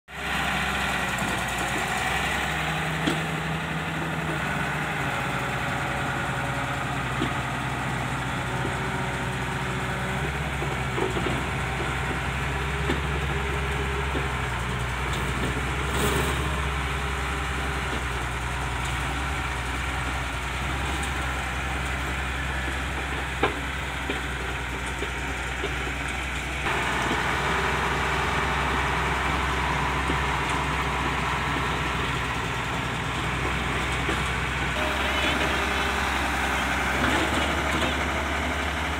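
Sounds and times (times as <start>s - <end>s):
heavy diesel engine running: 0.1s - 38.9s.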